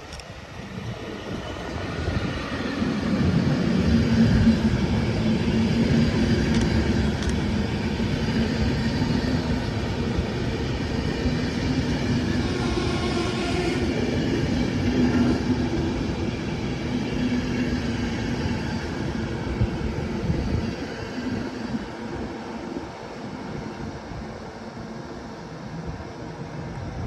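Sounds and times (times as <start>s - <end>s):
train wheels rumbling: 0.0s - 24.1s.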